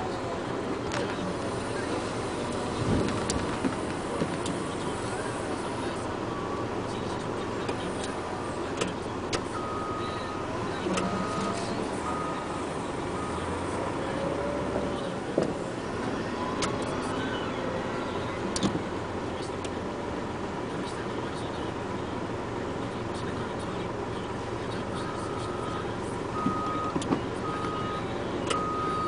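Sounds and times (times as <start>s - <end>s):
small truck engine running: 0.0s - 29.0s.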